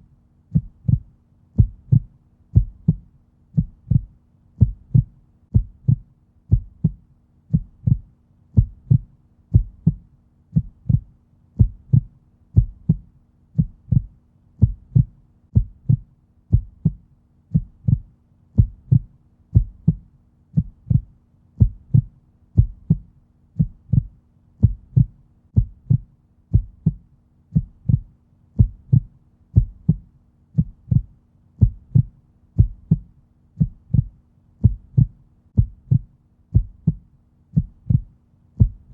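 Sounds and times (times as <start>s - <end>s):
muffled heartbeat: 0.5s - 38.9s.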